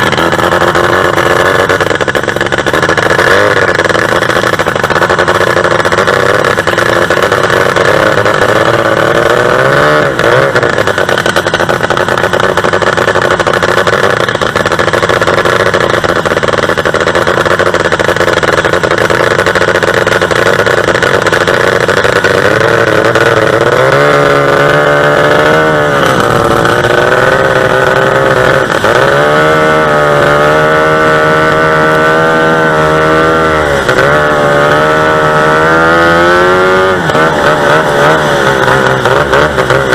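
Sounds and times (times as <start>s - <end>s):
racing boat engine revving: 0.0s - 39.9s.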